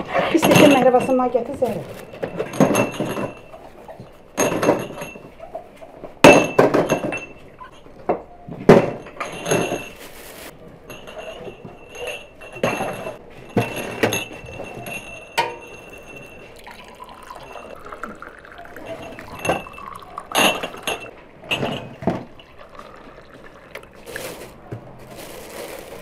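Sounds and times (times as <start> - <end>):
glasses clinking: 0.4 - 10.1, 10.7 - 24.1.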